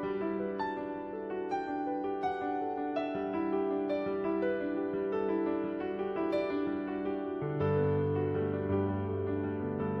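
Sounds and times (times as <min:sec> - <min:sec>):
soft piano notes: 0:00.0 - 0:10.0.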